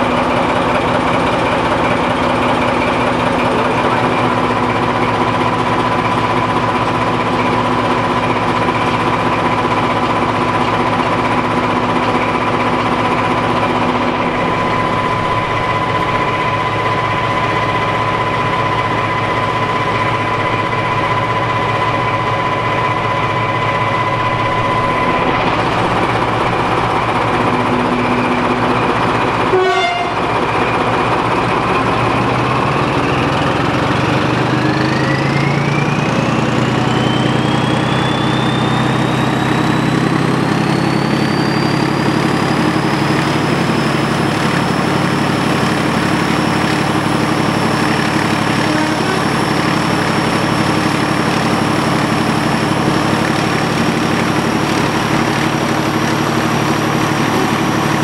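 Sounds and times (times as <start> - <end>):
locomotive engine running: 0.0 - 58.0
steady high whine: 0.0 - 58.0.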